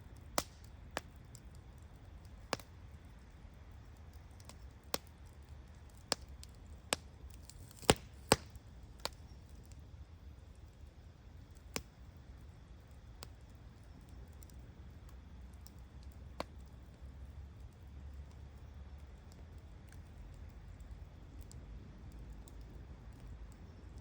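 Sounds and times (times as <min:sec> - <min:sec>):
bonfire crackling and popping: 0:00.0 - 0:24.0
faint steady background noise: 0:00.0 - 0:24.0.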